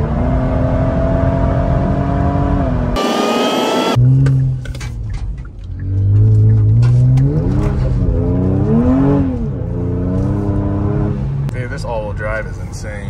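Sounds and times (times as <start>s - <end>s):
car engine revving: 0.0s - 4.8s, 5.7s - 11.5s.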